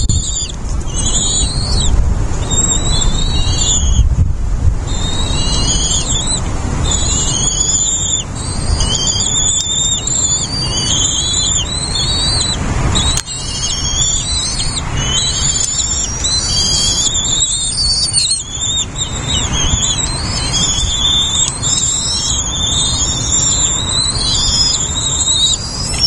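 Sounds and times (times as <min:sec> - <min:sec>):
birds chirping: 0:00.0 - 0:04.2, 0:04.8 - 0:26.0
wind rumble on microphone: 0:00.0 - 0:26.0.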